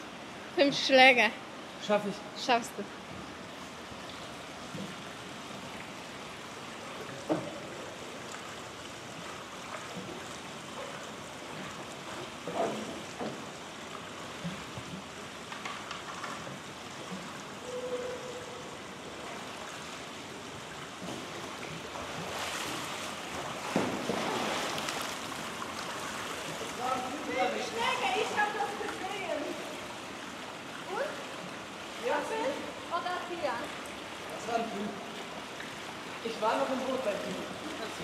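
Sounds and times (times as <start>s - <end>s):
water lapping around a paddled boat: 0.0s - 38.0s
rushing water splash: 3.4s - 38.0s.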